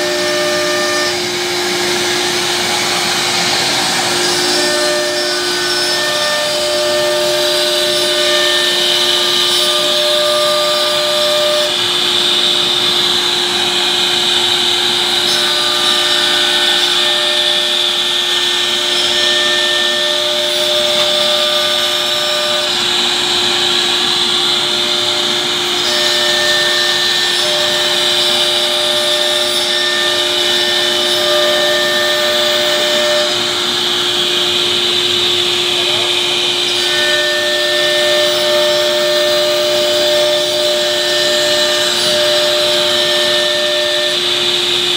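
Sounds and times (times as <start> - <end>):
cnc spindle whine: 0.0 - 44.9.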